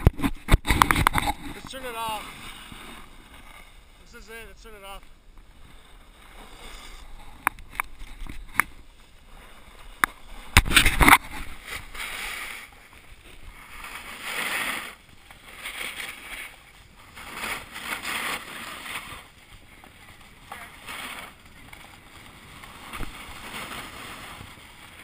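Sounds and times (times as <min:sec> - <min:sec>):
ski edges scraping snow: 0:00.0 - 0:25.0.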